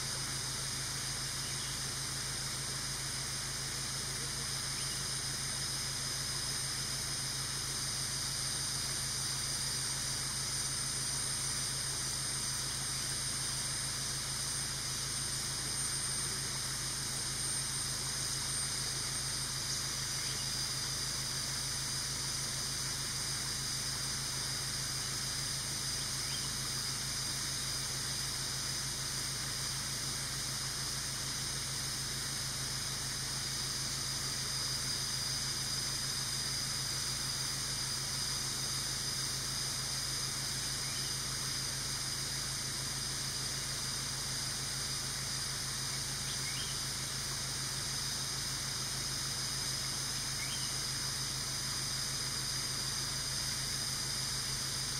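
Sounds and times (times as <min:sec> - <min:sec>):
high-pitched hiss and drone: 0:00.0 - 0:54.9.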